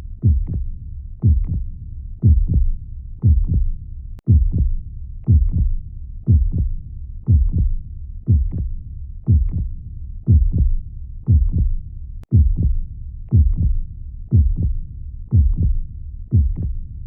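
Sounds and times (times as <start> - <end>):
constant low rumble: 0.0 - 17.0
heartbeat thumps: 0.2 - 16.8.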